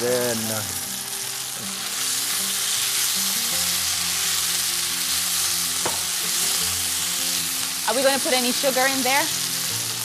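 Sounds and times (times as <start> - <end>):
soft background music: 0.0 - 10.0
stir-fry sizzling in hot pan: 0.0 - 10.0.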